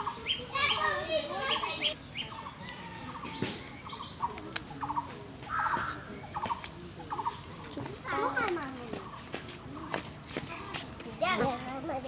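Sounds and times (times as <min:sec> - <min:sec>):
birds chattering: 0:00.0 - 0:11.7.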